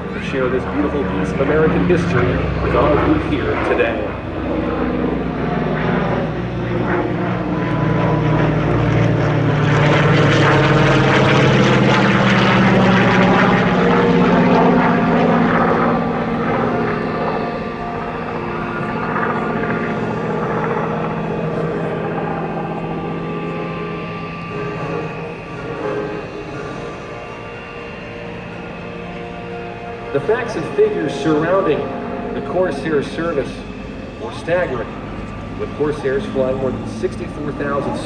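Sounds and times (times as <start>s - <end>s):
propeller plane flying past: 0.0s - 38.0s.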